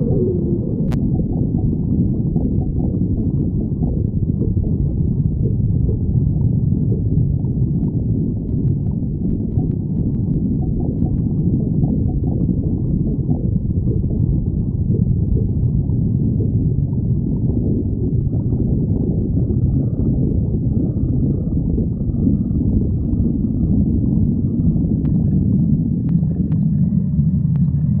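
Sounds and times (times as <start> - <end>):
stomach growling: 0.0 - 28.0.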